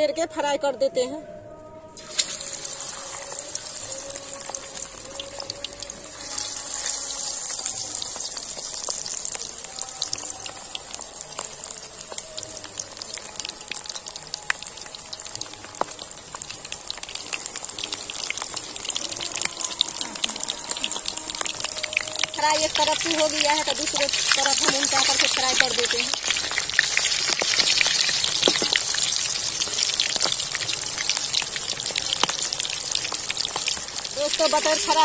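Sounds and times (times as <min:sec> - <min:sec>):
food deep-frying in oil: 0:02.0 - 0:35.0.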